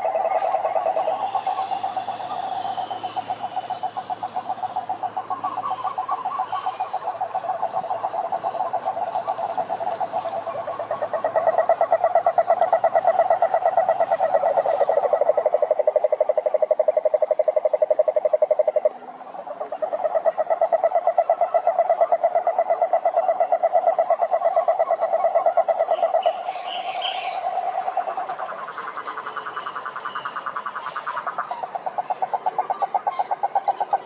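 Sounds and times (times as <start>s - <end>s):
toads trilling: 0.0s - 34.0s.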